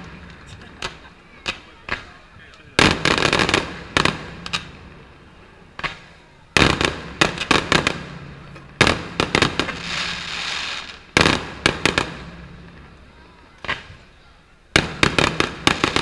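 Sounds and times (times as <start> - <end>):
crackling pops: 0.0 - 5.0, 5.7 - 12.9, 13.5 - 14.2
firework bangs: 0.0 - 16.0.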